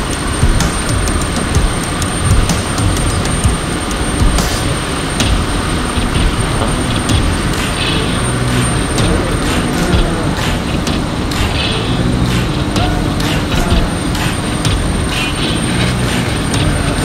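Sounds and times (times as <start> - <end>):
low outdoor rumble: 0.0 - 17.0
faint voices: 0.2 - 17.0.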